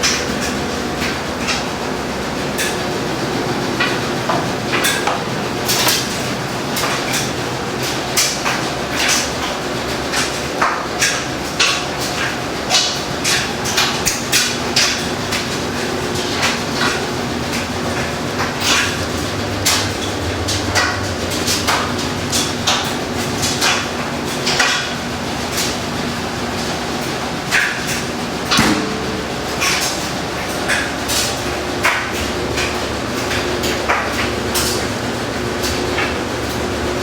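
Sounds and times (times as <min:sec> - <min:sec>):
washing machine knocks and clunks: 0:00.0 - 0:09.7, 0:10.5 - 0:37.0
washing machine motor humming: 0:00.0 - 0:37.0.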